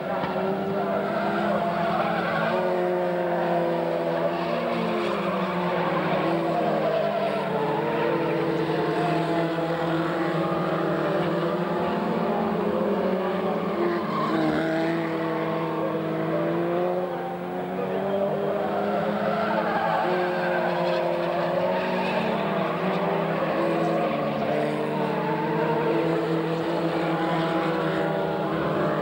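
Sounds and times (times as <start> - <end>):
race car engines: 0.0 - 29.0.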